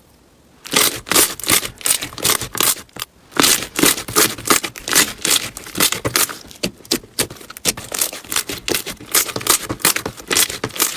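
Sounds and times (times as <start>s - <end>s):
crunchy slime crackling: 0.6s - 10.9s.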